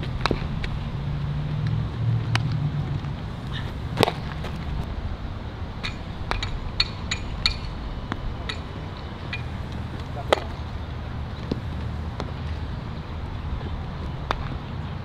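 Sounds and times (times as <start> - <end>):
baseballs striking gloves and bats: 0.0 - 1.0, 1.6 - 5.0, 5.8 - 14.8.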